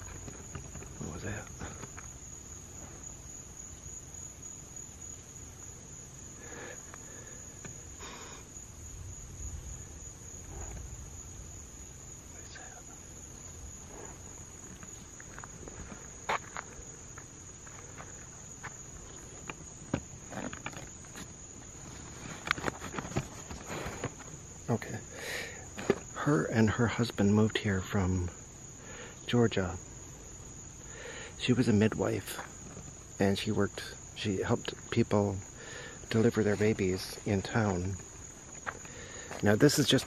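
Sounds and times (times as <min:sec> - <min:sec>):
night insects chorus: 0:00.0 - 0:40.0.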